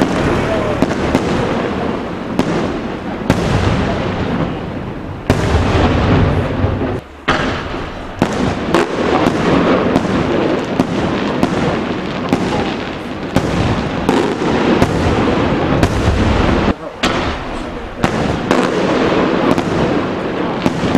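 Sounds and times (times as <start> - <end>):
fireworks bangs: 0.0 - 20.9
rumble of fireworks bursts: 0.0 - 20.9.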